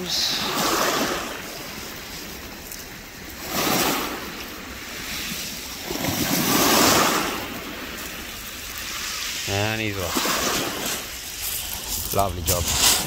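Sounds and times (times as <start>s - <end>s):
small waves washing over shingle: 0.0s - 13.0s.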